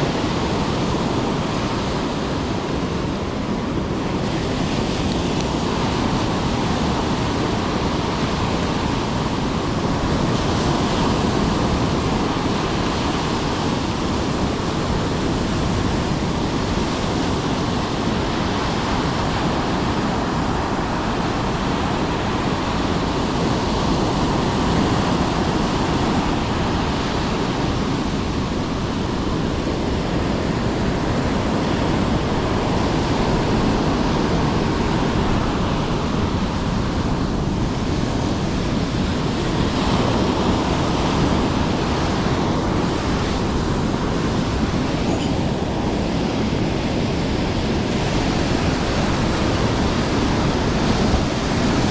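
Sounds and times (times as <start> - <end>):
sea surf: 0.0 - 51.9
wind on microphone: 0.0 - 51.9.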